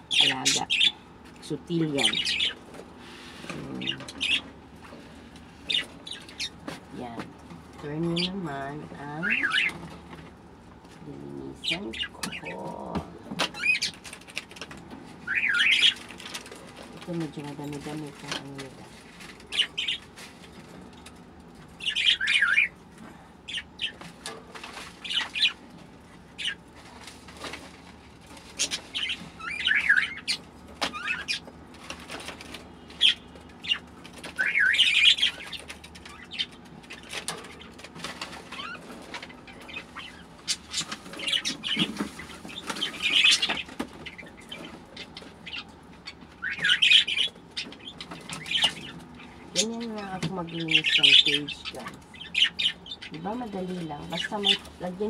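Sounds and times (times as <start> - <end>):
pet birds chirping: 0.0 - 55.0.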